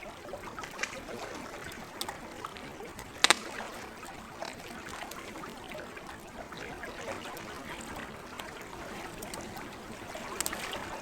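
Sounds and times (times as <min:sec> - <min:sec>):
campfire crackling and popping: 0:00.0 - 0:11.0
lake water lapping: 0:00.0 - 0:11.0.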